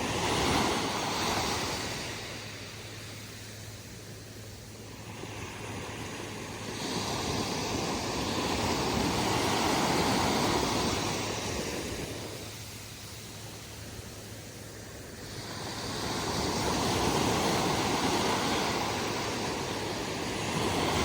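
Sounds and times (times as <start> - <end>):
surf waves breaking: 0.0 - 3.8, 4.8 - 21.0.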